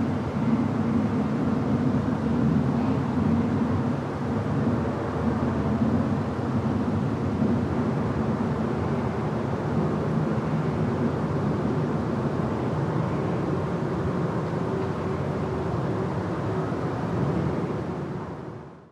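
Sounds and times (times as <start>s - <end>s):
low rumble of traffic: 0.0s - 18.9s.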